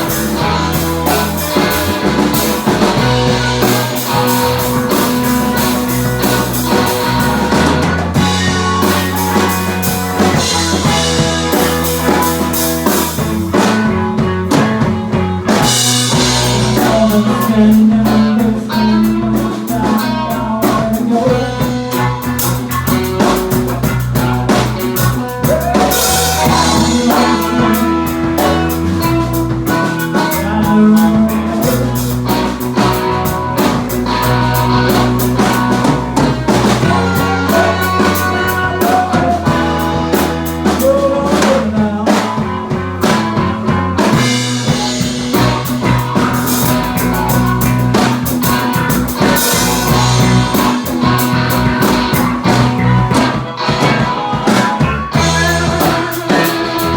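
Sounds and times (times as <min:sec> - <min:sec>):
blues rock band playing: 0:00.0 - 0:56.9.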